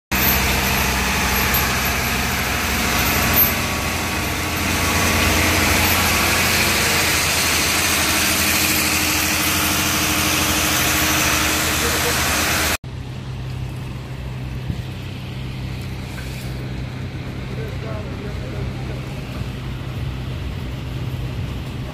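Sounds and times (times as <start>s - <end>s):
machine engine running: 0.1s - 21.9s.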